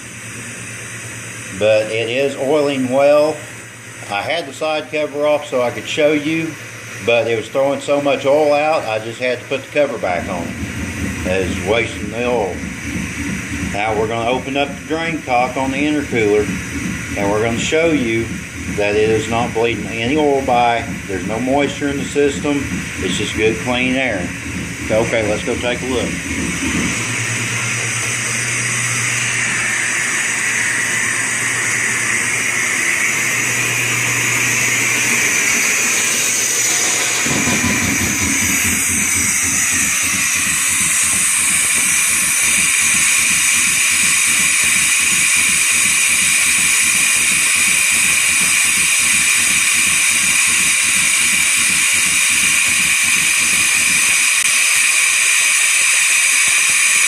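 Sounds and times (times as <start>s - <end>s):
air compressor pulsing: 0.0s - 57.0s.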